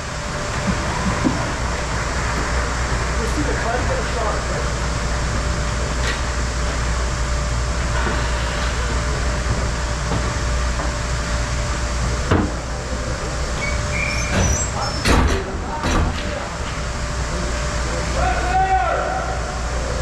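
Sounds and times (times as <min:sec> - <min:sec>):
arena rumbling hum: 0:00.0 - 0:20.0.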